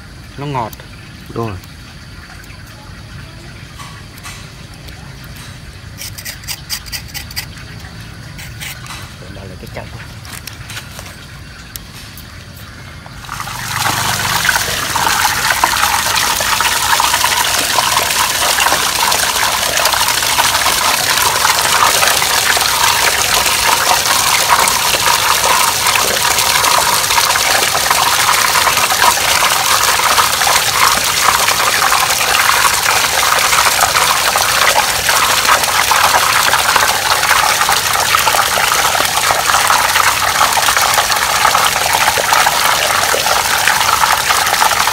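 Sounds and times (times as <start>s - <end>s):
water jet gushing into basin: 6.0s - 10.1s, 13.1s - 44.9s.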